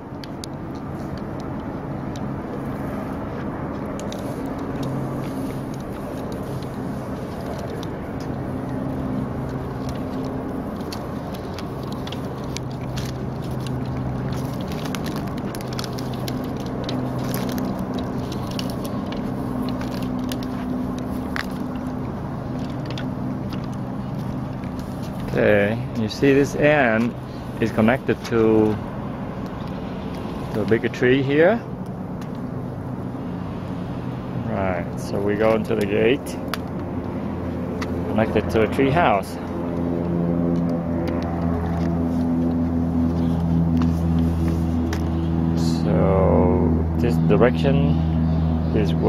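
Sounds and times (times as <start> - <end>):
low hum: 0.0 - 49.0.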